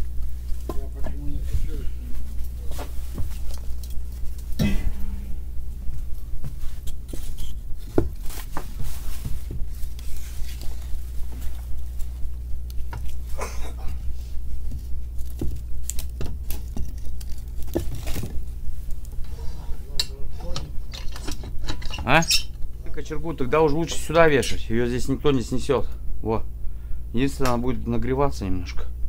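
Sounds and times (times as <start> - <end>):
low throbbing hum: 0.0 - 29.0.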